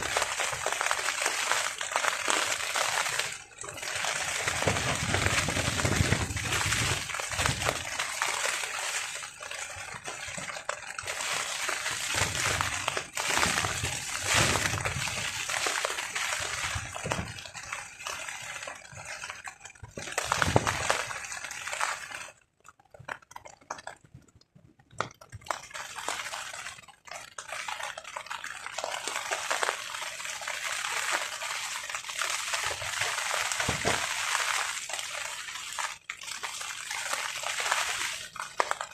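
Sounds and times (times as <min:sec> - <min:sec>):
rain falling on a tarp: 0:00.0 - 0:38.9.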